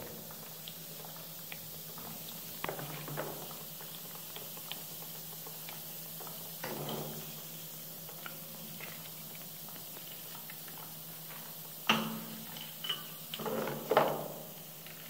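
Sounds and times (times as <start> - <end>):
foaming bath fizzing: 0.0 - 15.0.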